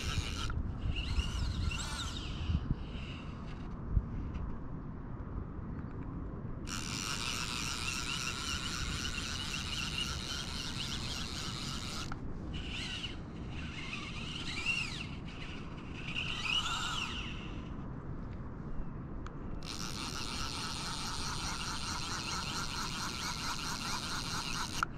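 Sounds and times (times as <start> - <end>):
fly reel drag buzzing: 0.0 - 3.8, 6.7 - 17.8, 19.6 - 24.9.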